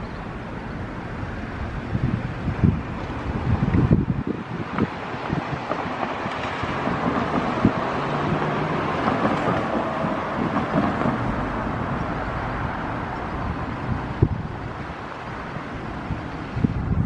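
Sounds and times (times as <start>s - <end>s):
vehicle rumble: 0.0s - 17.0s
wind buffeting microphone: 1.4s - 17.0s.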